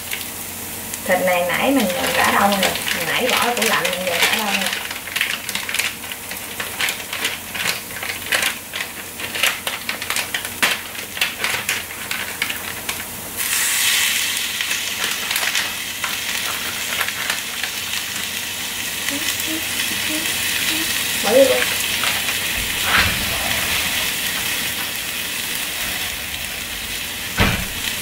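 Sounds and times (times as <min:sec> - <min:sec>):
meat sizzling in a pan: 0:00.0 - 0:28.0
onion frying in oil: 0:00.0 - 0:28.0.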